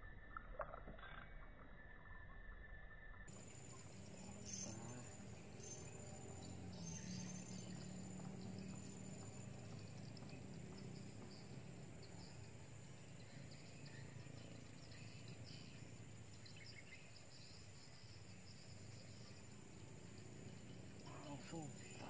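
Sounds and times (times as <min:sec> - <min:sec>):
bird chirps: 0:00.0 - 0:22.0
insects: 0:00.0 - 0:22.0
low steady hum: 0:03.1 - 0:22.0.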